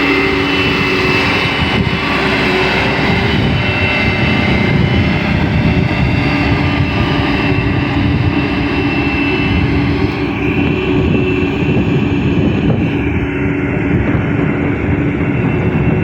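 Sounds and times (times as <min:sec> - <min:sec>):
heavy machine engine rumbling: 0:00.0 - 0:16.0
steady high whine: 0:00.0 - 0:16.0.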